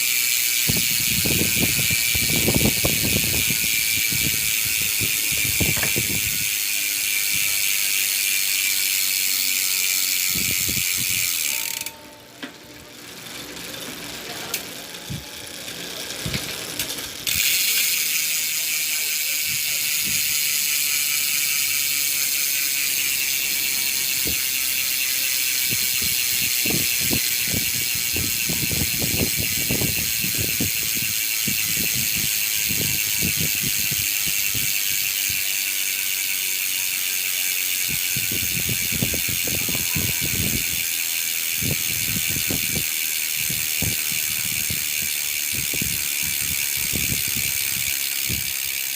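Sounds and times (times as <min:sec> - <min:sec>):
bicycle hub ratcheting buzz: 0:00.0 - 0:48.9.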